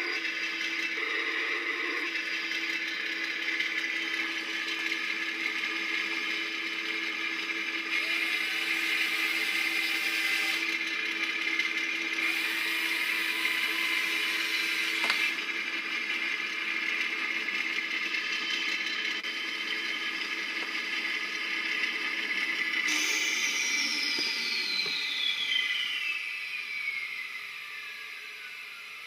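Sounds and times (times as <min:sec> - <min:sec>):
small electric motors whirring: 0:00.0 - 0:19.4, 0:22.6 - 0:29.0.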